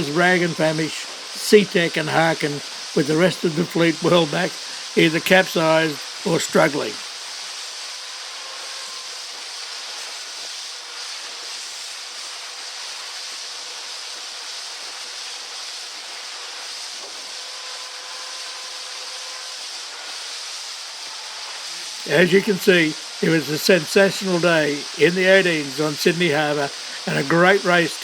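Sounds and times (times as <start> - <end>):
wind and water hiss: 0.0 - 28.0.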